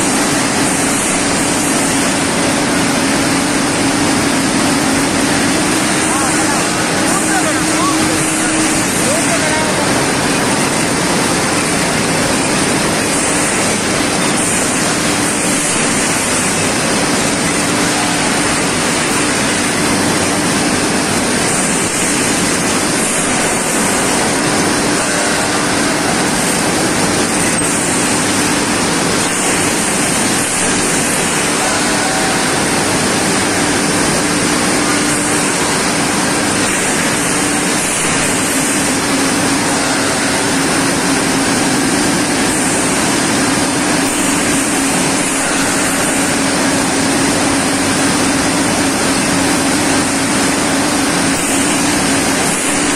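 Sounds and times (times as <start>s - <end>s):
steady hum: 0.0s - 52.9s
tube mill mechanical din: 0.0s - 52.9s.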